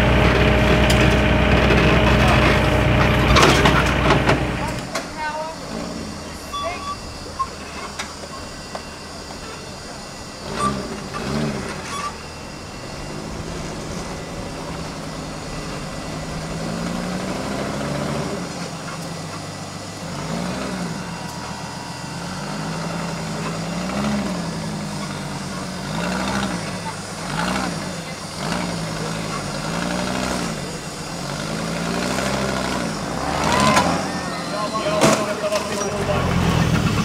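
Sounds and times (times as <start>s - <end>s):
buggy engine revving: 0.0s - 37.0s.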